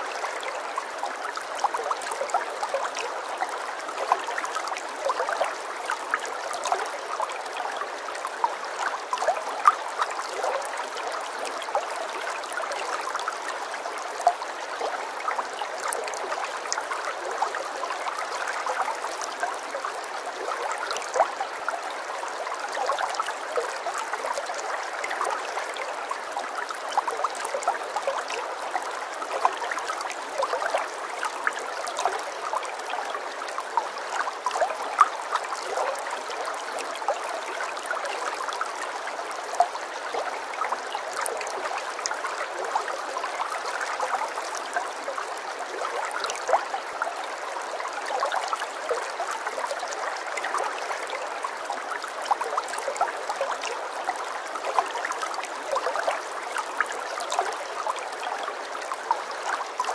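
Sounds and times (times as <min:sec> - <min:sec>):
stream trickling and gurgling: 0:00.0 - 0:59.9.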